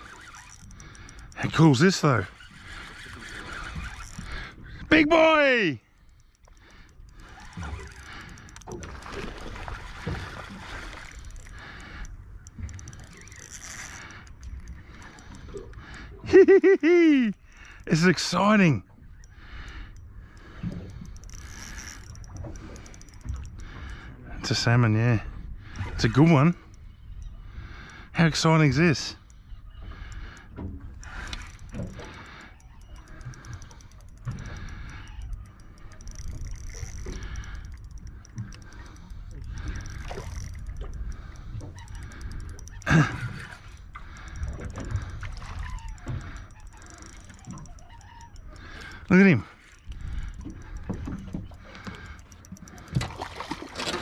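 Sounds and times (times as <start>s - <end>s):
spinning reel ticking: 0.0s - 54.0s
water lapping against boat hull: 0.0s - 54.0s
wind: 0.0s - 54.0s.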